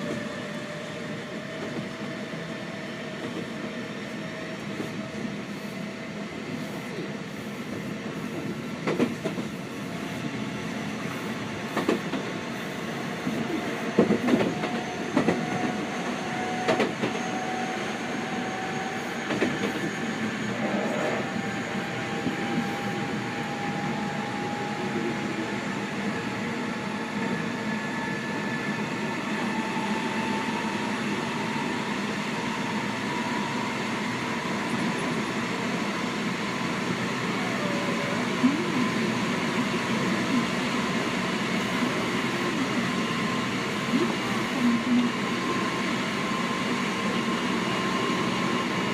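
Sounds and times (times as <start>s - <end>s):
train running rumble: 0.0s - 48.9s.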